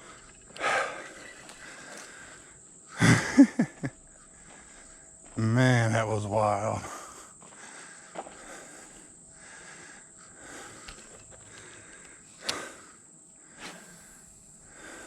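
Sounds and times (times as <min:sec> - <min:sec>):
high-pitched hum: 0:00.0 - 0:15.0.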